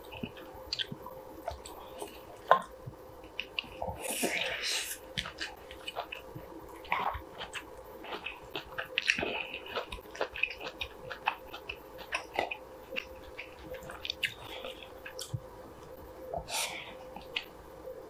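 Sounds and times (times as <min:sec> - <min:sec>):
person chewing wet mouth sounds: 0:00.0 - 0:17.5.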